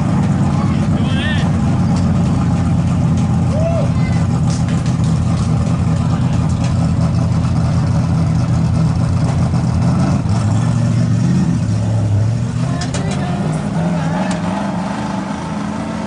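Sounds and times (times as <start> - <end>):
vee eight engines idling: 0.0 - 16.0.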